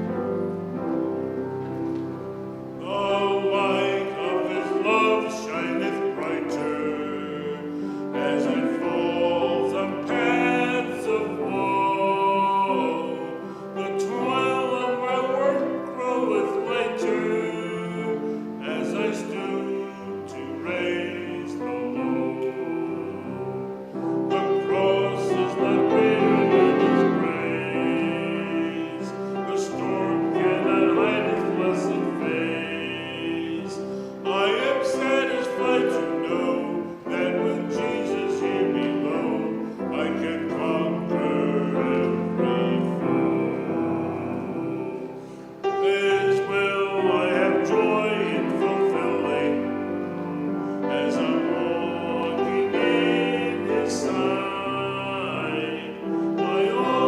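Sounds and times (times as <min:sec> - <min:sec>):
person singing church music: 0:00.0 - 0:57.0
piano accompaniment: 0:00.0 - 0:57.0.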